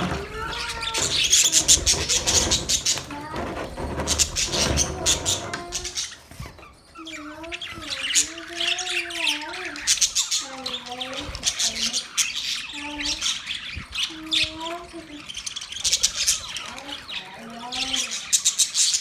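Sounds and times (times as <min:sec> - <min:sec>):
budgerigars chattering: 0:00.0 - 0:19.0.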